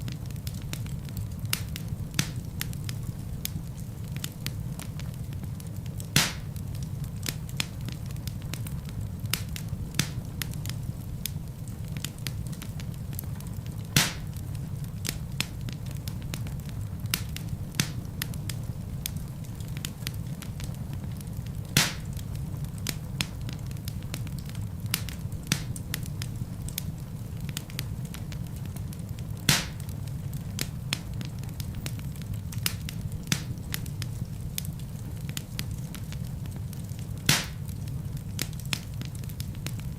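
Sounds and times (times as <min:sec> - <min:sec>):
burning logs popping: 0:00.0 - 0:39.9
wood fire crackling: 0:00.0 - 0:39.9.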